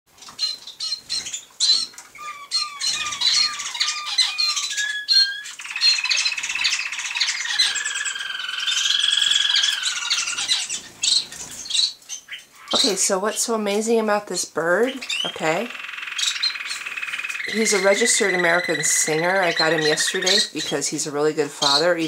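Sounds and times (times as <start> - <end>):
canary singing: 0.1 - 22.0.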